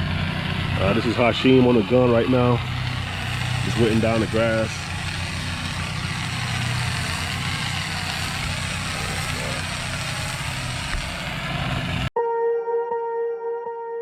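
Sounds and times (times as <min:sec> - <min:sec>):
pressure washer engine running: 0:00.0 - 0:12.1.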